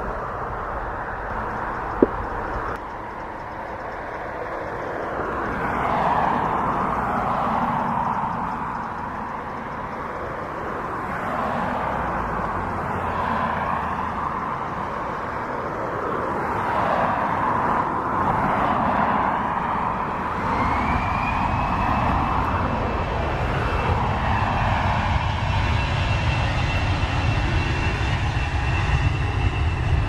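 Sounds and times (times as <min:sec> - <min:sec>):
jet engines rushing: 0:00.0 - 0:30.0.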